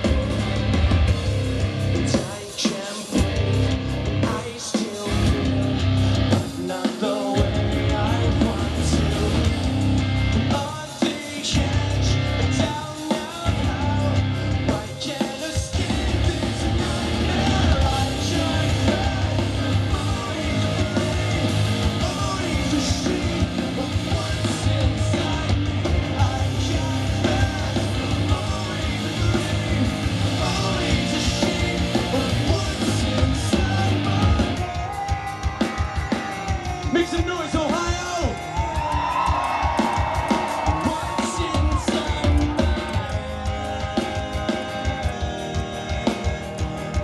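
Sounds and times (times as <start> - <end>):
drums: 0.0 - 47.0
electric guitar: 0.0 - 47.0
person singing into a microphone: 2.1 - 3.4, 4.2 - 5.7, 6.4 - 9.7, 10.4 - 39.0, 40.6 - 47.0.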